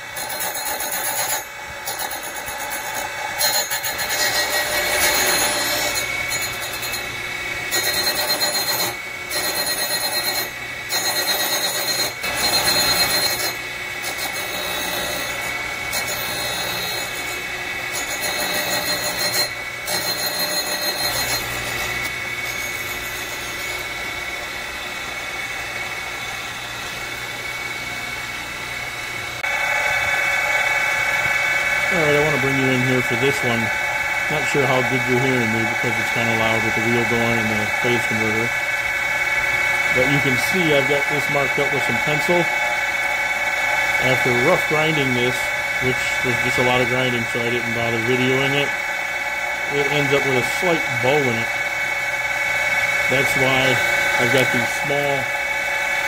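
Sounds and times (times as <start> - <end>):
grinding wheel on metal: 0.0 - 28.1, 29.4 - 56.0
hum of spinning wheel: 0.0 - 56.0.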